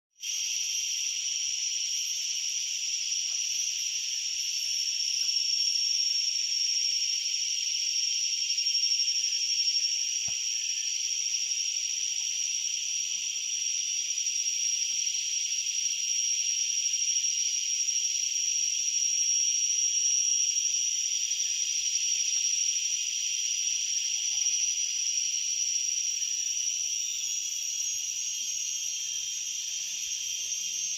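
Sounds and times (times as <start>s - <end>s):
insects chorus shrilling: 0.2s - 30.9s
sharp steady insect tone: 0.2s - 30.9s.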